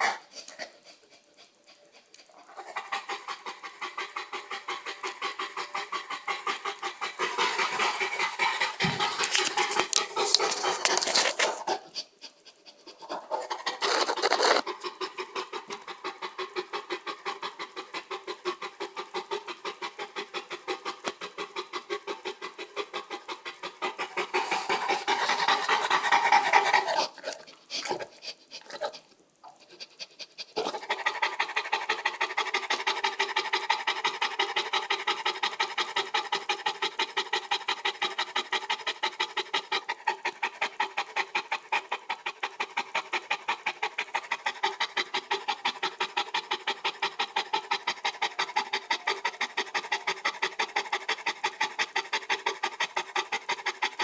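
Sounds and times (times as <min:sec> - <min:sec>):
dog panting heavily: 0:00.0 - 0:29.0, 0:29.6 - 0:54.0.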